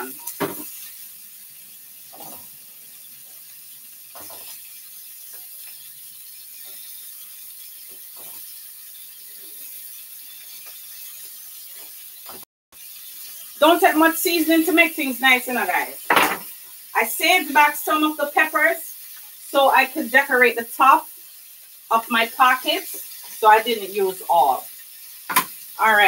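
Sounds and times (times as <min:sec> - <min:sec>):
food sizzling in a wok: 0:00.0 - 0:26.0.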